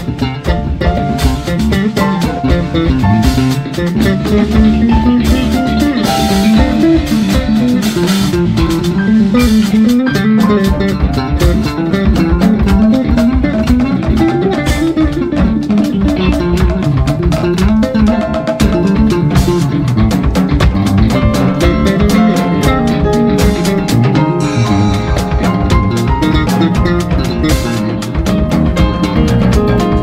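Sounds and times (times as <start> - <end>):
drum kit beat: 0.0 - 30.0
electric bass: 0.0 - 30.0
guitar: 0.0 - 30.0
piano: 0.0 - 30.0.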